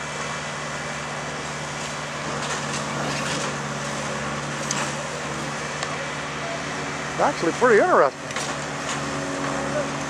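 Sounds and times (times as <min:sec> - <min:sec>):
diesel engines idling: 0:00.0 - 0:10.0.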